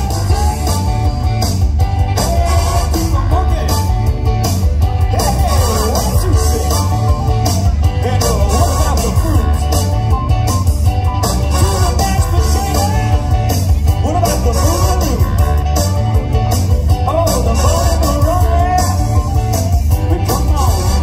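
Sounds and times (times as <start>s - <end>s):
loud rock music over pa system: 0.0s - 21.0s.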